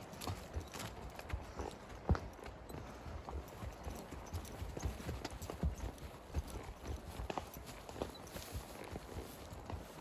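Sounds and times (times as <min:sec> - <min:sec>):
horse hoofbeats walking: 0:00.0 - 0:10.0.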